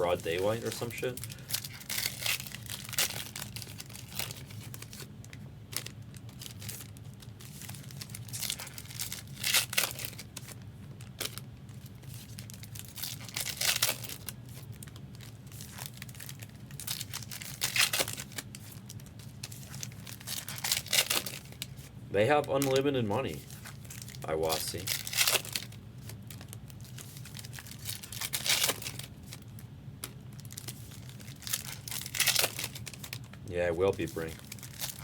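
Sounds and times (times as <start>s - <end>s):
foil wrappers crinkling and tearing: 0.0s - 35.0s
steady low hum: 0.0s - 35.0s.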